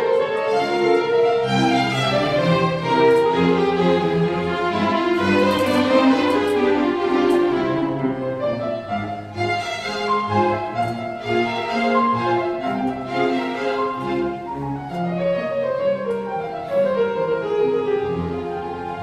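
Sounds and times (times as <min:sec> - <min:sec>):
slow violin and cello melody: 0:00.0 - 0:19.0.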